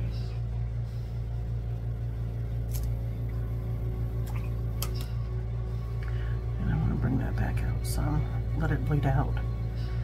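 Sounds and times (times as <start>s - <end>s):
steady low drone: 0.0s - 10.0s.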